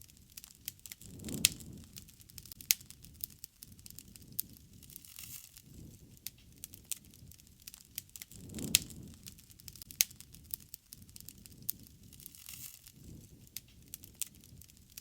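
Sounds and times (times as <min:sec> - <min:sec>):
burning wood popping: 0:00.0 - 0:15.0
low rush of flames: 0:00.0 - 0:15.0.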